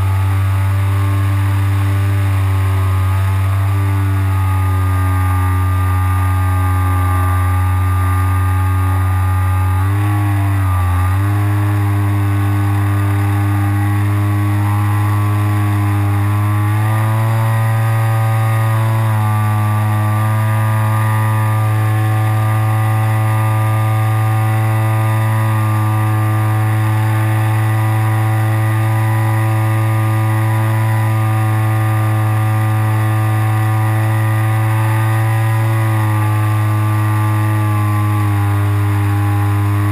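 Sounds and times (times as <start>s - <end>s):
model plane motor and propeller: 0.0s - 39.9s.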